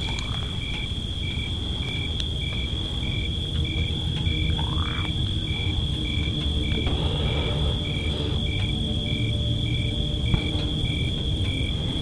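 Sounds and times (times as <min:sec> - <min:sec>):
cricket chirping: 0:00.0 - 0:12.0
cricket high trill: 0:00.0 - 0:12.0
low rumble: 0:00.0 - 0:12.0.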